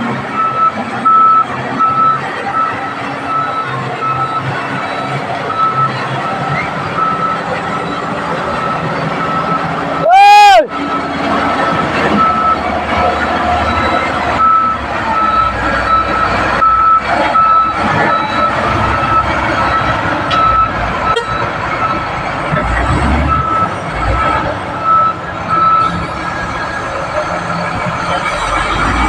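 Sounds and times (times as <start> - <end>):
bulldozer diesel engine running: 0.0 - 29.0
reversing alarm beeping: 0.3 - 10.1, 10.8 - 29.0.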